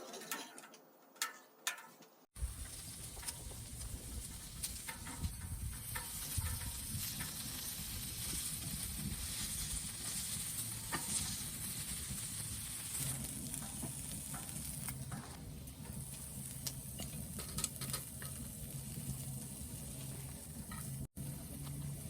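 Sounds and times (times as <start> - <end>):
pops and crackles: 2.4 - 21.8
fish sizzling on a grill: 2.4 - 22.0.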